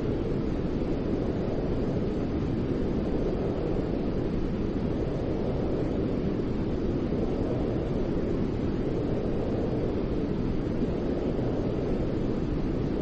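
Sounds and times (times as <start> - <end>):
deep white noise hiss: 0.0 - 13.0.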